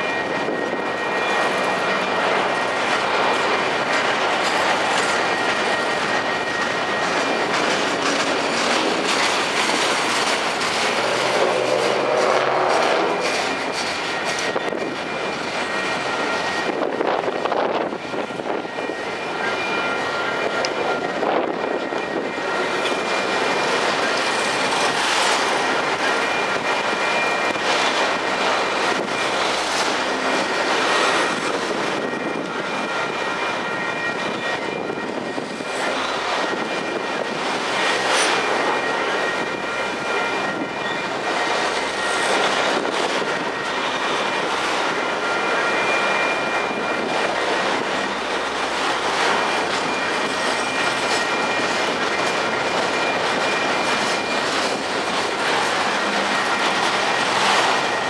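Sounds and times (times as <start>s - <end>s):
high-pitched ringing: 0.0s - 58.0s
train wheels rumbling on rails: 0.0s - 58.0s.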